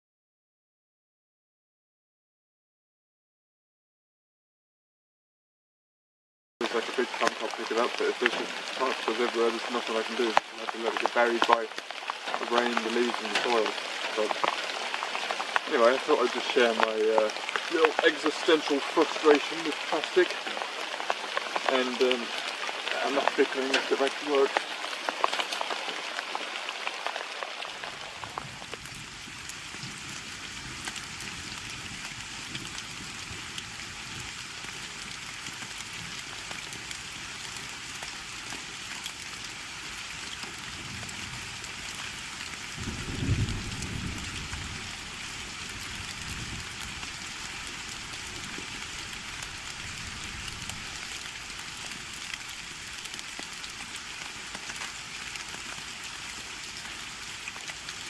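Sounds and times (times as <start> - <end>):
heavy rain falling: 6.6 - 58.0.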